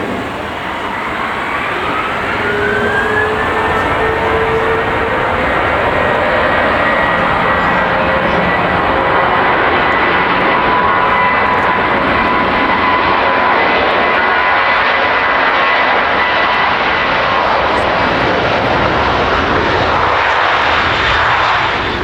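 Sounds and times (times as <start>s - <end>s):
faint engine whine: 0.0s - 22.0s
jet engines roaring: 0.0s - 22.0s.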